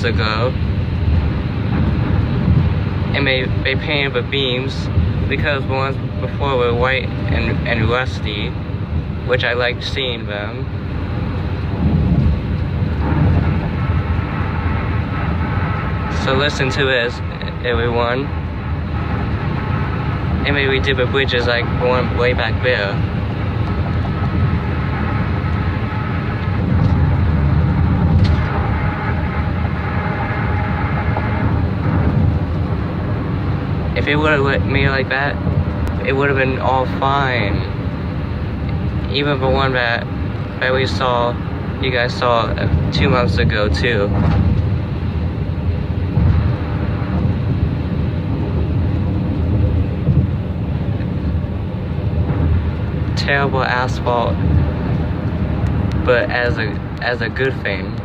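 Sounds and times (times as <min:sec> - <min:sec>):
tire and road rumble: 0:00.0 - 0:58.0.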